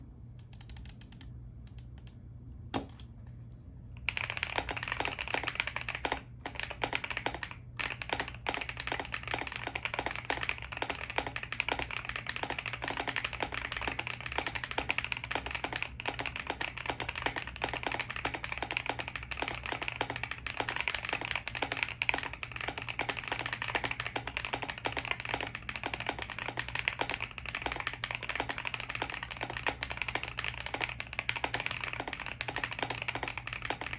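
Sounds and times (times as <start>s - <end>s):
typing on mechanical keyboard: 0.4s - 2.1s, 4.0s - 33.9s.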